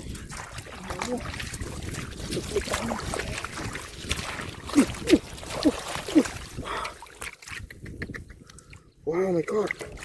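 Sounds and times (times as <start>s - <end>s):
splashing in muddy water: 0.0s - 10.0s.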